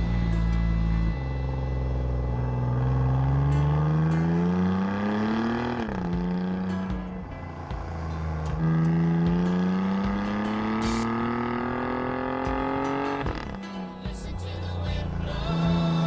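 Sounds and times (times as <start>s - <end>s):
exhaust cracks: 0.0s - 13.7s
car engine revving: 0.0s - 16.0s.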